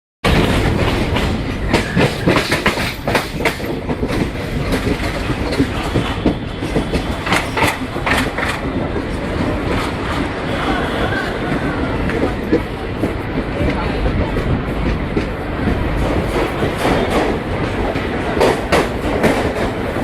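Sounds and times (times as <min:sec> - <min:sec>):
train rumbling: 0:00.2 - 0:20.0.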